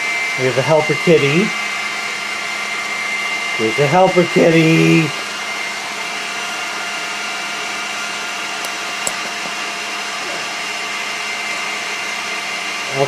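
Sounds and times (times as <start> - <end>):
stand mixer motor whirring: 0.0 - 13.0.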